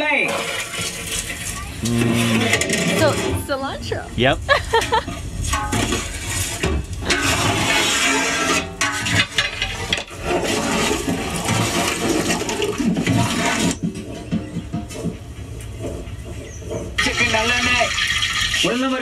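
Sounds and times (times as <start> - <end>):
water sloshing in a metal pot: 0.0 - 3.8, 4.7 - 19.0.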